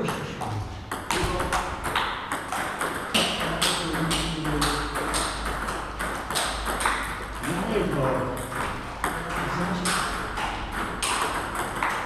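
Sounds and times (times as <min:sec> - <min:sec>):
ball bouncing on table: 0:00.0 - 0:12.0
table tennis ball hits: 0:00.0 - 0:12.0.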